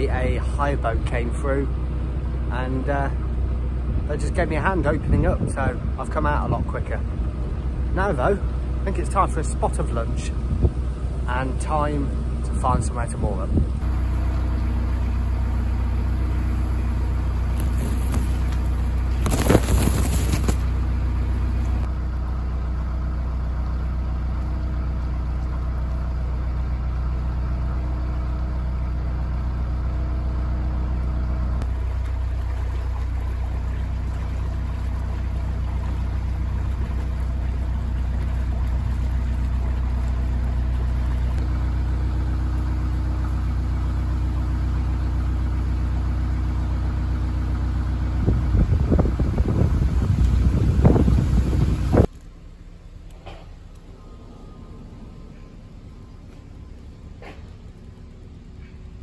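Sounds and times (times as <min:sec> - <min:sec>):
boat diesel engine humming: 0:00.0 - 0:59.0.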